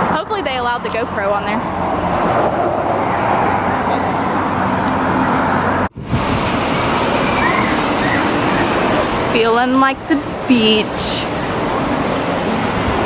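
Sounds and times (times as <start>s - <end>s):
ocean surf rushing: 1.1s - 13.0s.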